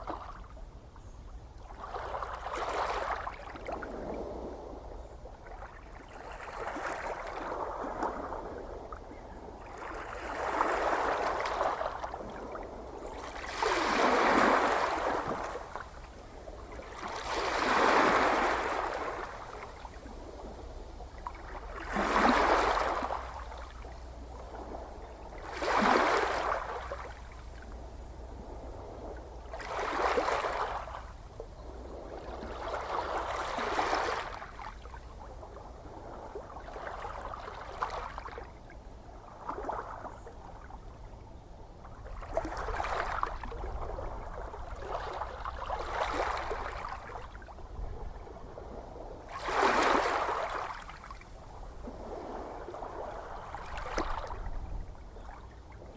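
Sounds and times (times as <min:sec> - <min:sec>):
small ocean waves washing in: 0:01.6 - 0:55.9.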